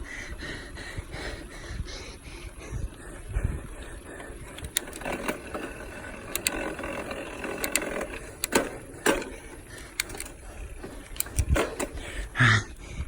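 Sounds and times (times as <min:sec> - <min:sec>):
bicycle drivetrain clicking: 0:00.0 - 0:13.0.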